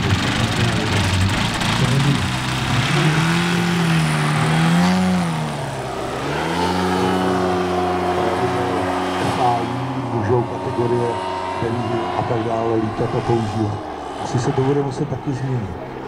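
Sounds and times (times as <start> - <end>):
model airplane engine running: 0.0 - 16.0.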